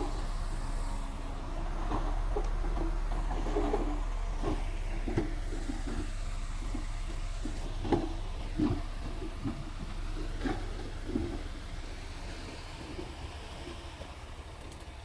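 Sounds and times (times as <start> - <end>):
bulldozer diesel engine drone: 0.0 - 15.0.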